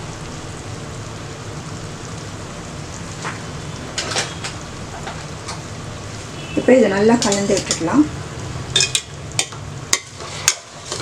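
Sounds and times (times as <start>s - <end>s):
masala sizzling in a pot: 0.0s - 11.0s.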